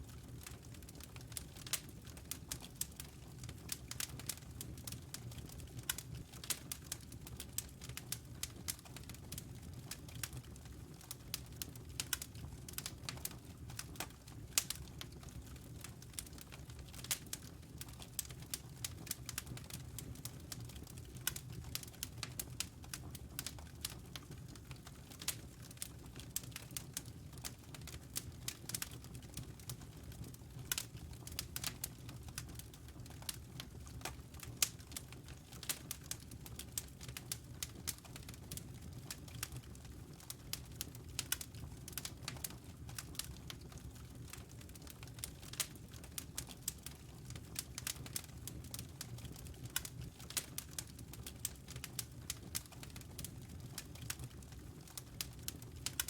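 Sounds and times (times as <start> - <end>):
low rumble of burning logs: 0.0 - 56.0
wood fire crackling and popping: 0.0 - 56.0.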